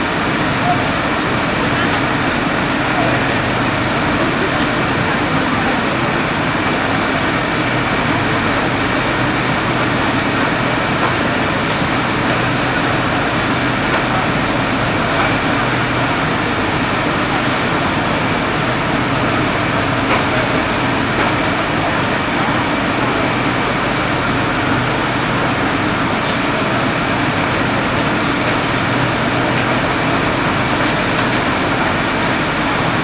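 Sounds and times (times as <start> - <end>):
fire engine diesel engines droning: 0.0 - 33.0.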